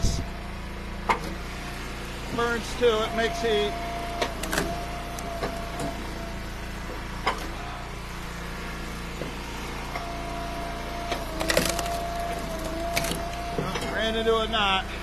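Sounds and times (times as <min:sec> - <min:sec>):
log splitter engine running: 0:00.0 - 0:15.0.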